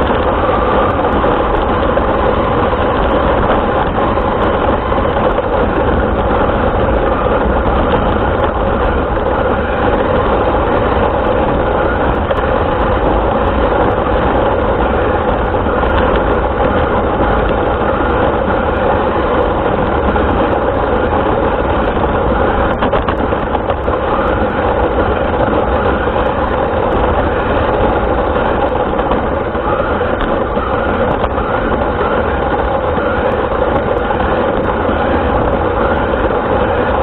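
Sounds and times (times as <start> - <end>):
wheels rumbling on ground: 0.0 - 37.0.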